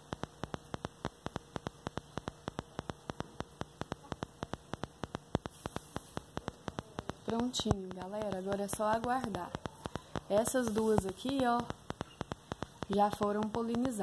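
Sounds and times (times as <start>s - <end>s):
faint low hum: 0.0s - 14.0s
rapid faint clicking: 0.0s - 14.0s.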